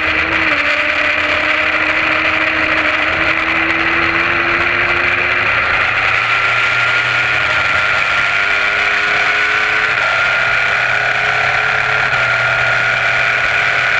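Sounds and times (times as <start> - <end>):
motorcycle engine running at speed: 0.0 - 13.9.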